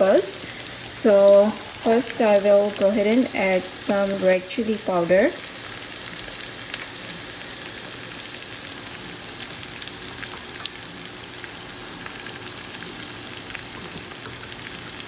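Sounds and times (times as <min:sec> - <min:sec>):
food frying in oil: 0:00.0 - 0:15.0.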